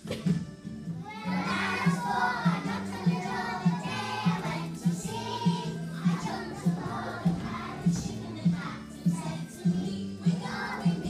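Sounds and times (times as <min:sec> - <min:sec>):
backing music with steady beat: 0:00.0 - 0:11.0
children singing together: 0:01.0 - 0:11.0.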